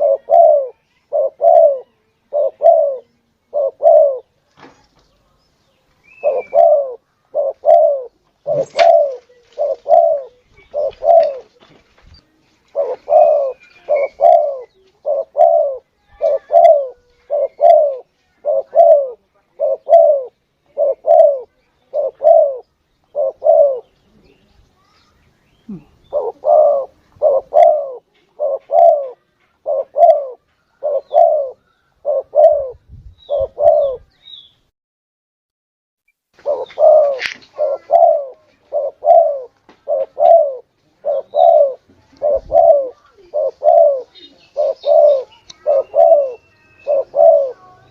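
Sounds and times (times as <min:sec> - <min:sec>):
dove cooing: 0:00.0 - 0:04.4, 0:06.1 - 0:11.7, 0:12.6 - 0:24.2, 0:25.7 - 0:34.1, 0:36.4 - 0:47.9.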